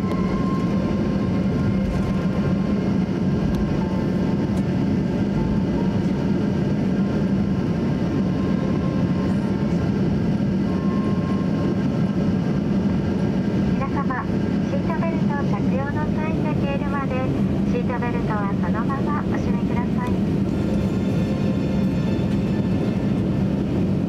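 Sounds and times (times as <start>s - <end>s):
aircraft cabin engine hum: 0.0s - 24.0s.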